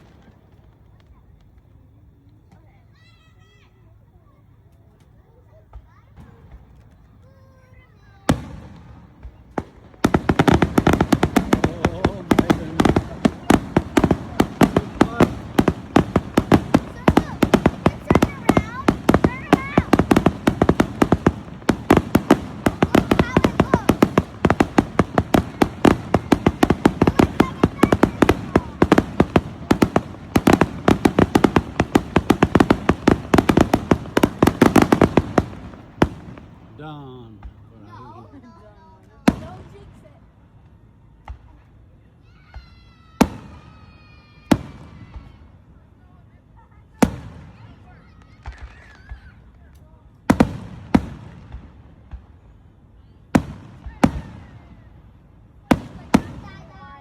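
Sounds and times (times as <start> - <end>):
fireworks exploding: 0.0 - 3.1, 4.9 - 40.2, 42.6 - 45.6, 46.8 - 57.0.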